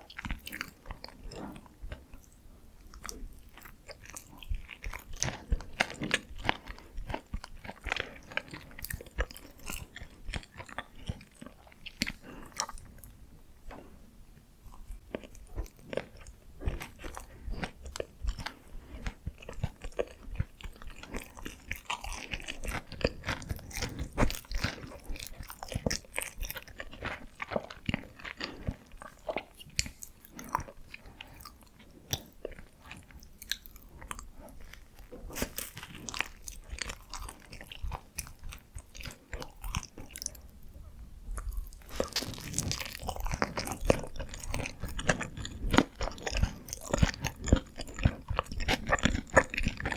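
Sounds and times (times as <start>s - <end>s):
chewing and biting buns: 0.0s - 49.9s.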